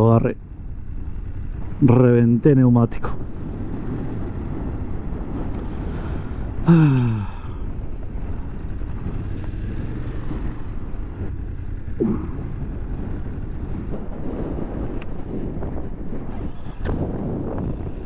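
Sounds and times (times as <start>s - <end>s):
motorcycle engine running: 0.0s - 18.0s
wind and road noise: 0.0s - 18.0s.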